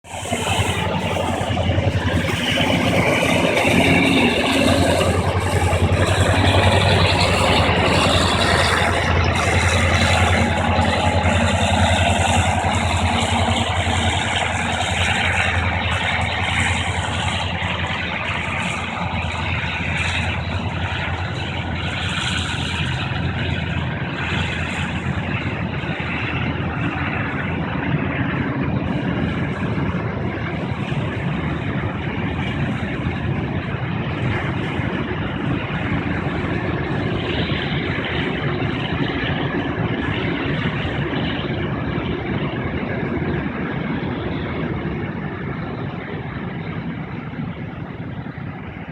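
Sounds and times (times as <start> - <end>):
freight train rumbling past: 0.0 - 48.9
low hum: 0.0 - 48.9.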